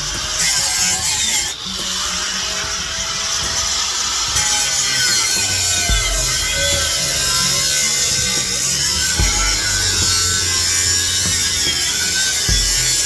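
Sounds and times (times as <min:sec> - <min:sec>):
power tool cutting through steel: 0:00.0 - 0:13.0.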